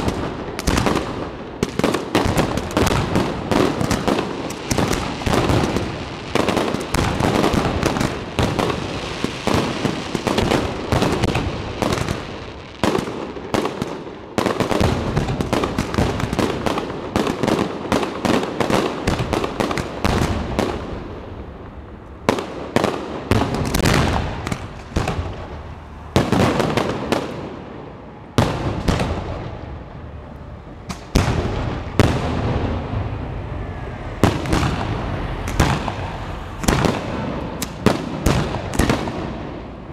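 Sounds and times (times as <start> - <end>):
fireworks bursts and bangs: 0.0 - 30.0, 30.8 - 33.2, 34.2 - 39.9.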